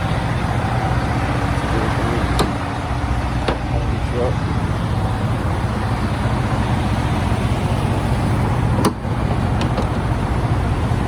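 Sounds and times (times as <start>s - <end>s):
idling engines and traffic: 0.0s - 11.0s.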